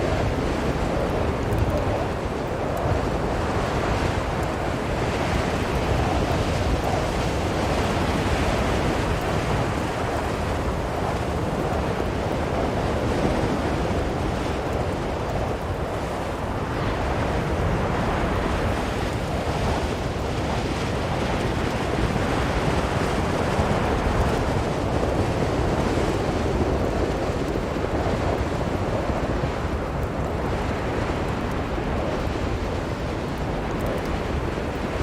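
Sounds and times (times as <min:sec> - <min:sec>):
strong blizzard wind: 0:00.0 - 0:35.0.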